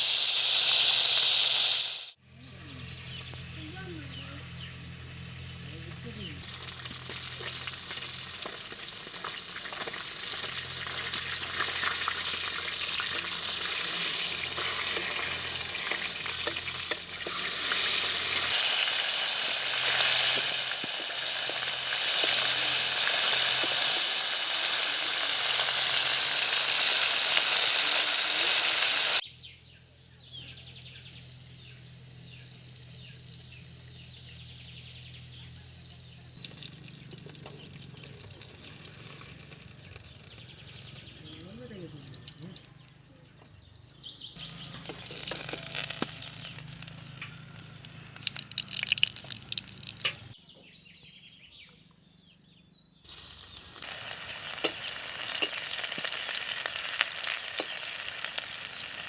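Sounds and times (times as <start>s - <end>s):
food sizzling in hot oil: 0.0s - 29.2s, 36.4s - 43.4s, 44.4s - 50.4s, 53.0s - 59.0s.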